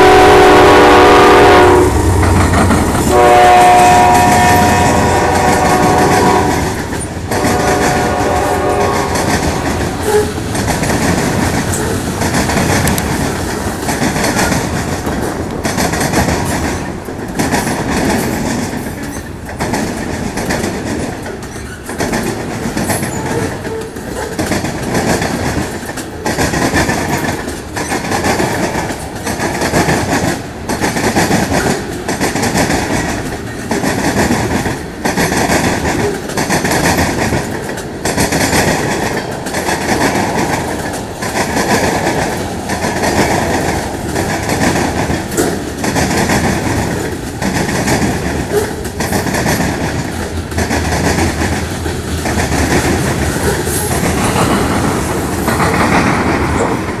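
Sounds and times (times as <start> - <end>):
freight train rolling rumble: 0.0 - 57.0
train wheels clacking over rail joints: 0.0 - 57.0.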